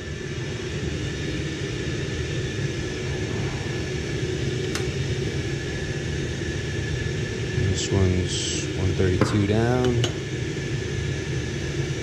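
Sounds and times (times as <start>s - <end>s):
faint steady whine: 0.0s - 12.0s
heating system hum and rumble: 0.0s - 12.0s.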